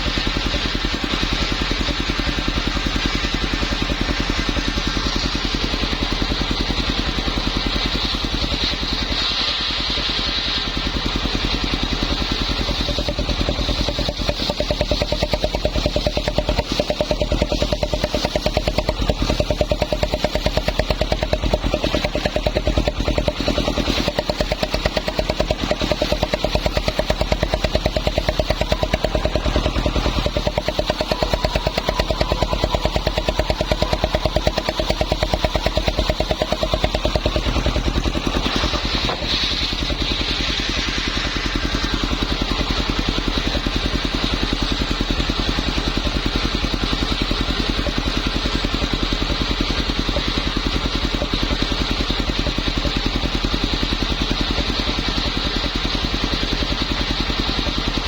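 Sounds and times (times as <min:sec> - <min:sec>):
circular saw motor pulsing: 0:00.0 - 0:58.0.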